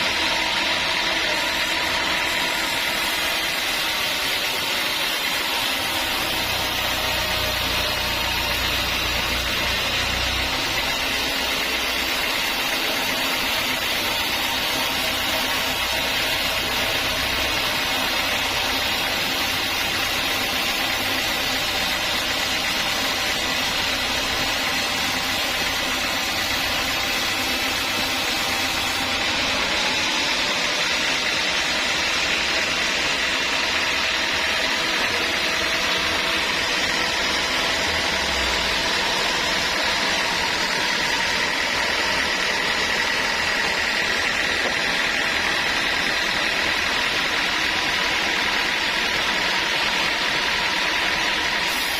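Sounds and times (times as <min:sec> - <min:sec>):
sawmill saw whirring: 0:00.0 - 0:51.9.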